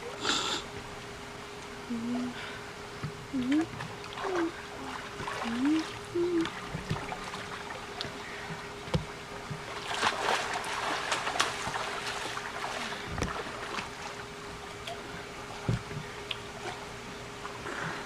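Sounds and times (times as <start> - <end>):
steady hum: 0.0 - 18.0
water splashing around boat: 3.0 - 18.0.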